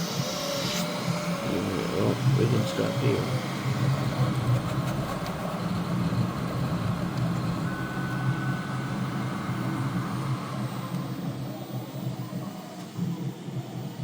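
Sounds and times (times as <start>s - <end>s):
printer fans and motors whirring: 0.0s - 14.0s.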